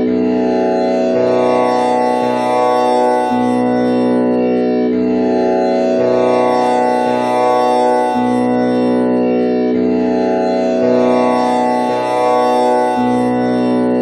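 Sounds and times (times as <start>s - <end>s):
tanpura drone: 0.0s - 14.0s.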